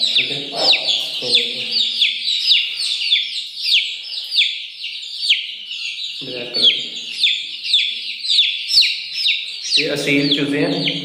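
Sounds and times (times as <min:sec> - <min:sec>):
chick peeping loudly: 0:00.0 - 0:11.0.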